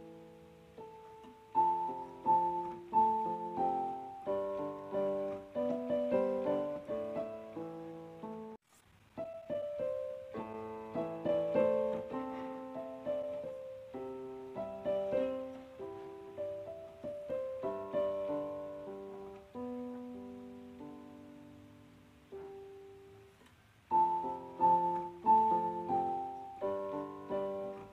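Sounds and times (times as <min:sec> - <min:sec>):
solo piano melody: 0:00.0 - 0:27.9.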